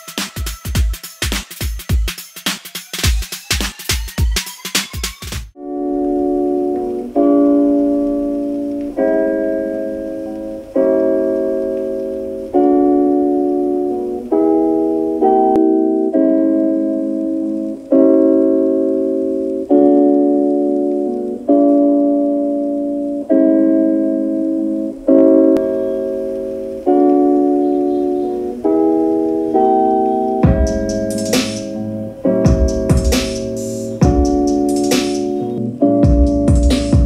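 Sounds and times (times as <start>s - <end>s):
keyboard chords over speakers: 5.6s - 37.0s.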